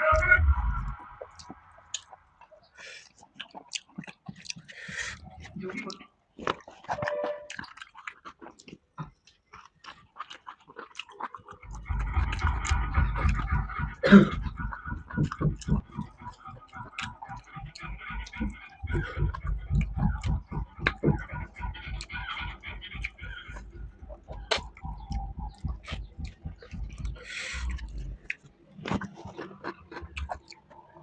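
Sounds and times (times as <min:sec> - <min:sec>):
mouth clicks: 0:00.0 - 0:31.0
close-up chewing: 0:00.8 - 0:31.0.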